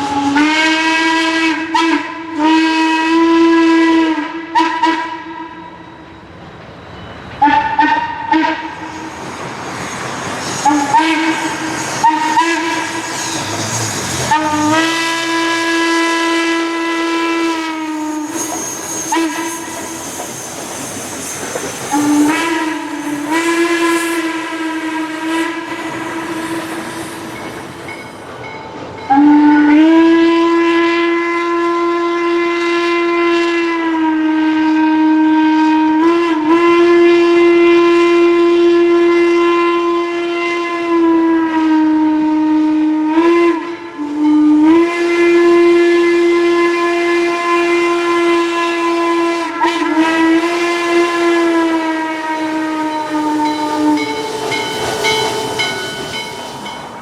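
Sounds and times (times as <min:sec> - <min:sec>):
steam locomotive whistle blasts: 0:00.0 - 0:06.2, 0:07.4 - 0:27.6, 0:29.1 - 0:57.0.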